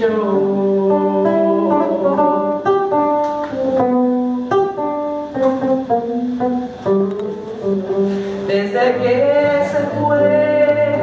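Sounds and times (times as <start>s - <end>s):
acoustic guitar tango melody: 0.0s - 11.0s.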